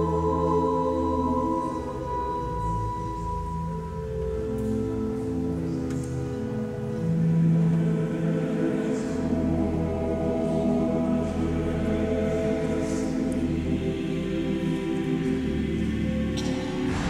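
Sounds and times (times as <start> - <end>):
choir singing sustained chords: 0.0 - 17.0.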